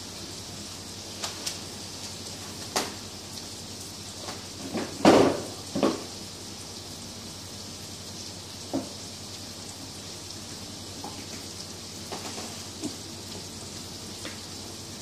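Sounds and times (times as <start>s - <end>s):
patties sizzling in a pan: 0.0s - 15.0s.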